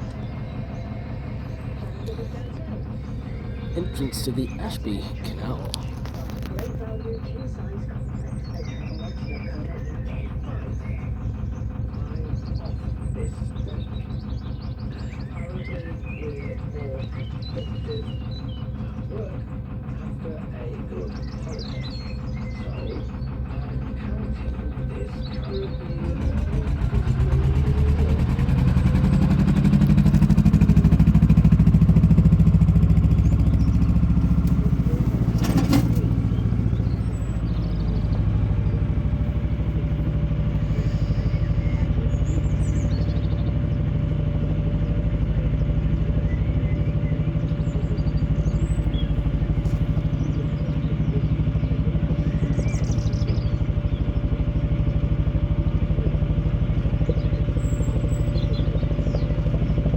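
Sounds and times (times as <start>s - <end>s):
diesel boat engine running: 0.0s - 59.9s.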